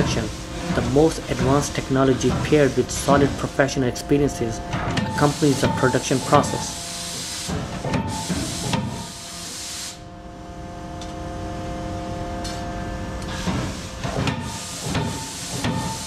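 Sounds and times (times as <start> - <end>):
factory machinery hissing and clattering: 0.0 - 10.1, 12.4 - 16.0
multi-tone machine hum: 0.0 - 16.0.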